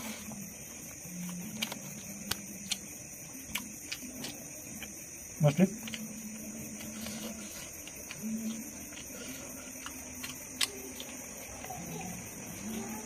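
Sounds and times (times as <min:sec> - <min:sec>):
person chewing and smacking: 0:00.0 - 0:12.2.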